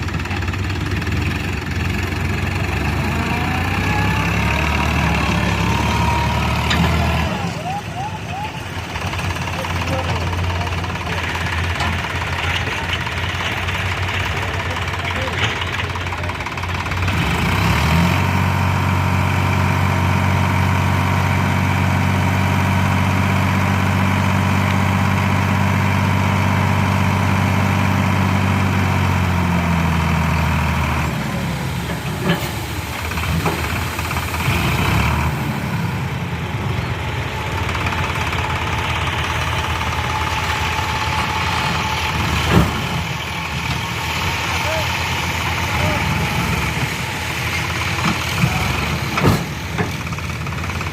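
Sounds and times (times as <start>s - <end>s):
deeper engine drone: 0.0s - 50.9s
heavy diesel engine running: 0.0s - 50.9s.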